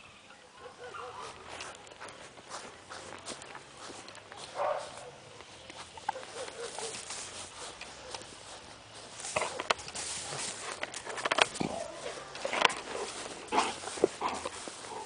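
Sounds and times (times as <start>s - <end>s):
fur rustling on grass: 1.0s - 15.0s.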